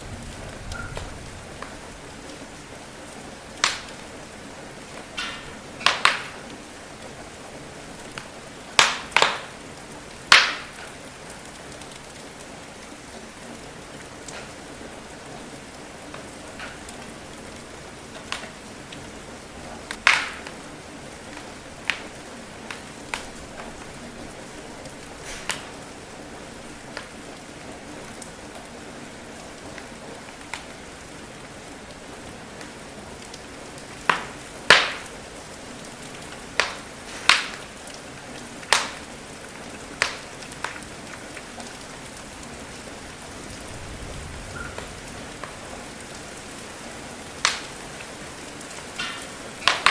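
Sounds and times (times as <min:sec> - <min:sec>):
rain patter: 0:00.0 - 0:49.9
wood fire crackling: 0:00.0 - 0:49.9.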